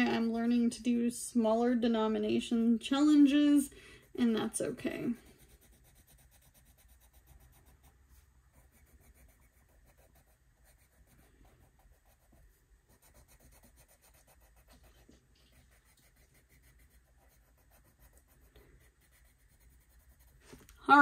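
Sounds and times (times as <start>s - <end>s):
pencil rubbing on paper: 4.0s - 21.0s.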